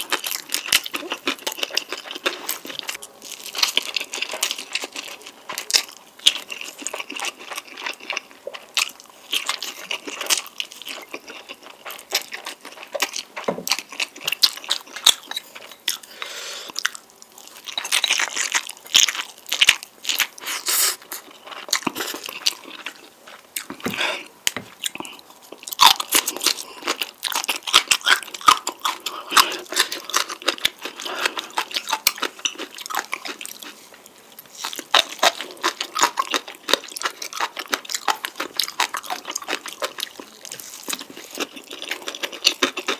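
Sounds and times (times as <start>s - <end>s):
person chewing crunchy noodles: 0.0s - 42.9s.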